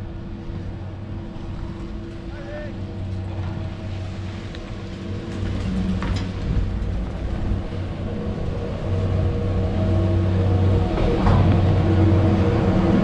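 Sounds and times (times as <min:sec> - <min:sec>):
chairlift machinery humming: 0:00.0 - 0:13.0.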